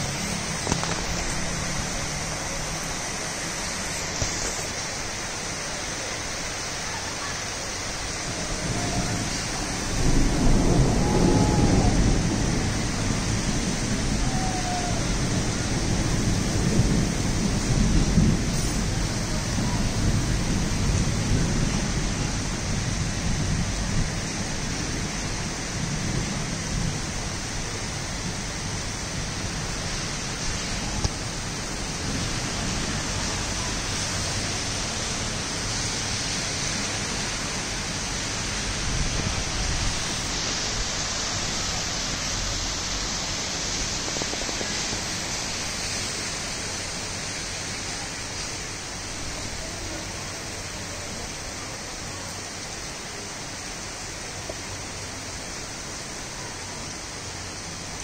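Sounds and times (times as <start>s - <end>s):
heavy rain on roofs and street: 0.0s - 58.0s.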